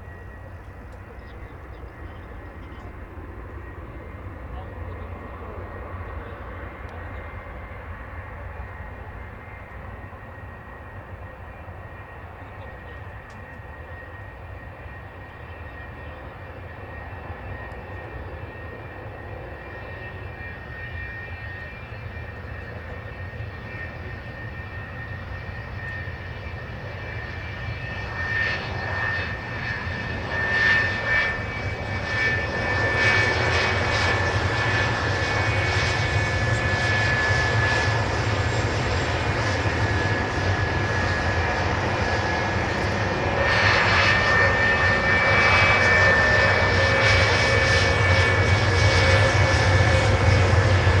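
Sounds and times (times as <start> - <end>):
jet engine whining: 0.0 - 51.0.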